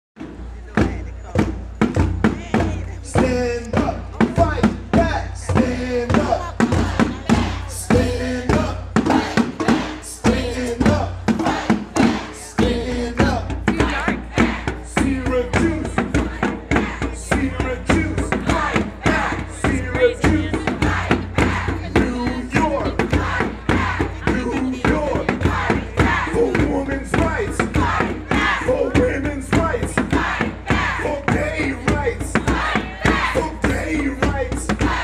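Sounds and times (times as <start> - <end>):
drums beaten fast: 0.2 - 35.0.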